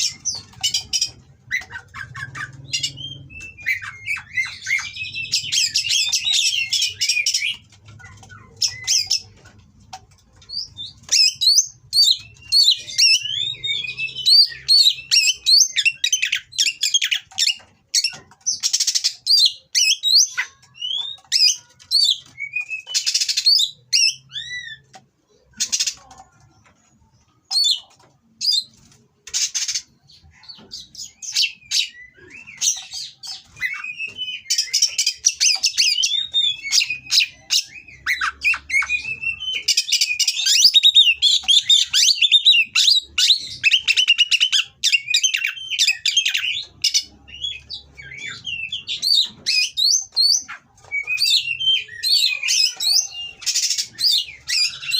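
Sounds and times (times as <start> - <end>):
magpie-robin singing whistles and chirps: 0.0 - 9.2, 10.5 - 24.8, 30.4 - 54.9.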